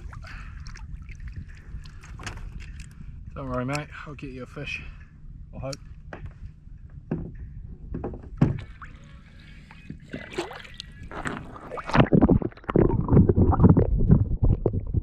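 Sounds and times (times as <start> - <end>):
water sloshing and gurgling: 0.0 - 15.0.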